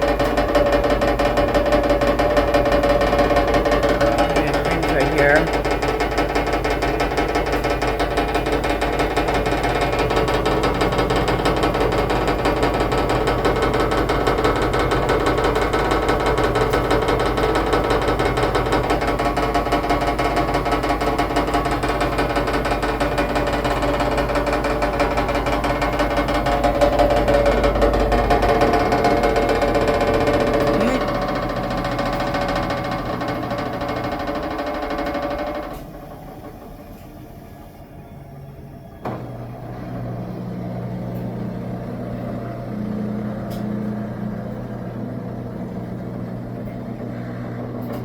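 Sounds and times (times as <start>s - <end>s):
washing machine spinning and rattling: 0.0s - 48.0s.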